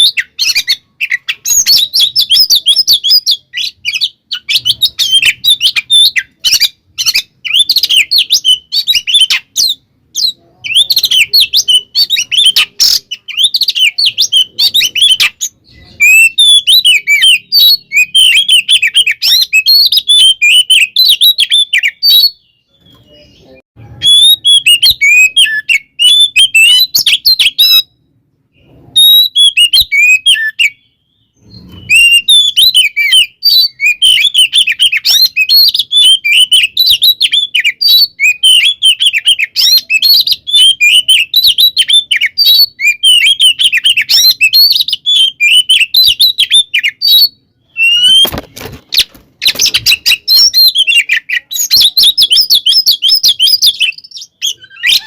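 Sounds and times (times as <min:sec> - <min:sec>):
songbird chattering and whistling: 0:00.0 - 0:55.0.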